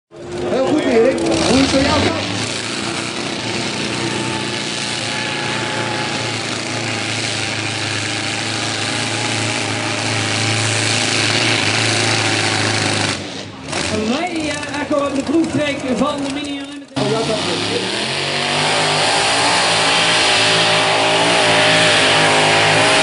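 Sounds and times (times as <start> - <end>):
tractor engine running: 0.1 - 23.0.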